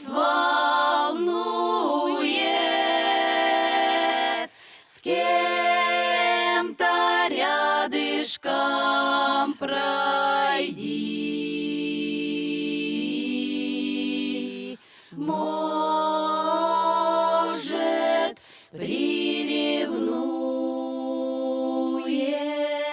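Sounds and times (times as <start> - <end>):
vocal ensemble singing a cappella: 0.0 - 22.9.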